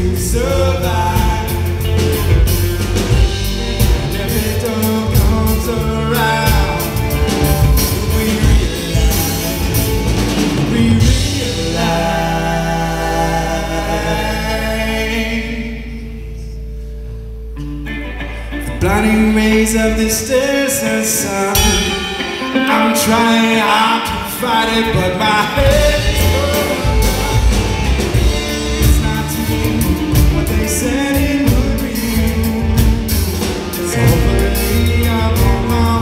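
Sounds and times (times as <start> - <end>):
drum kit: 0.0 - 15.0, 18.8 - 36.0
reggae band playing: 0.0 - 36.0.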